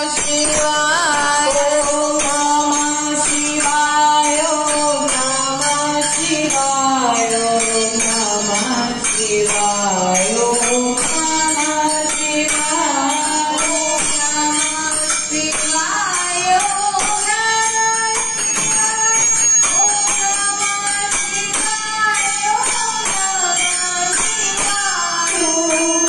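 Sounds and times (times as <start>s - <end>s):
jingling percussion beat: 0.0s - 26.0s.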